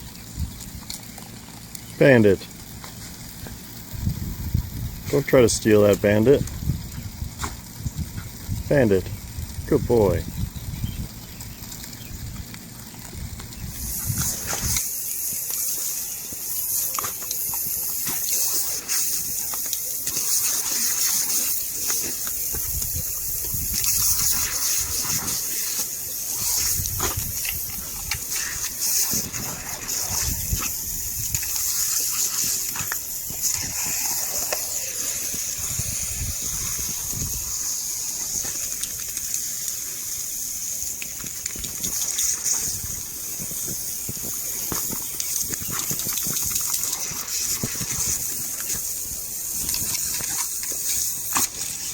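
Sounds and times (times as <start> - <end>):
lawn sprinkler hissing: 0.0 - 51.9.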